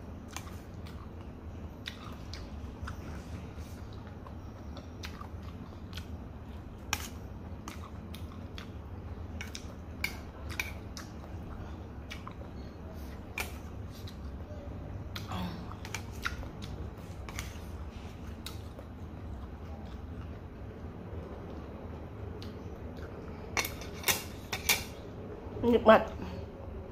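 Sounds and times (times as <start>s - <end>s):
chewing and mouth sounds: 0.0s - 24.2s
steady low hum: 0.0s - 26.9s.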